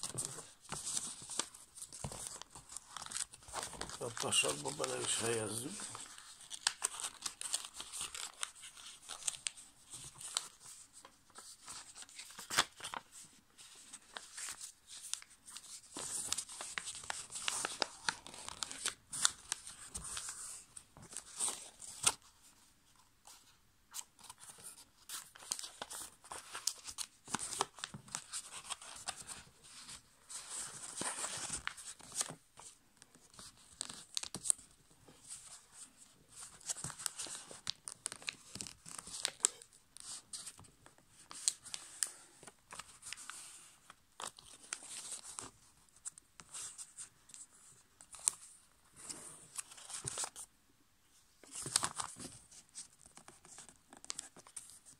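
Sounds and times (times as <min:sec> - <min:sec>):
paper crackling and rustling: 0:00.0 - 0:22.4, 0:23.2 - 0:50.5, 0:51.4 - 0:54.9.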